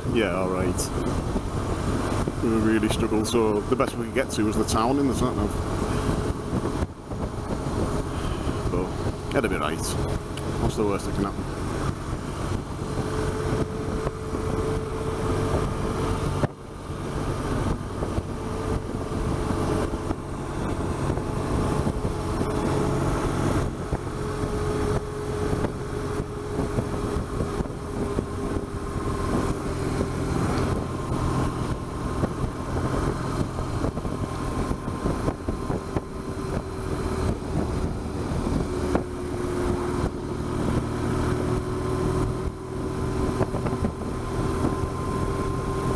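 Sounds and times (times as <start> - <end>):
motorcycle engine running: 0.0 - 45.9
road noise: 0.0 - 45.9
wind noise: 0.0 - 45.9.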